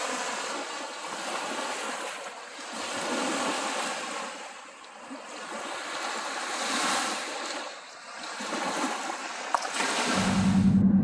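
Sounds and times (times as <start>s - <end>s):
small waves washing on beach: 0.0s - 10.3s.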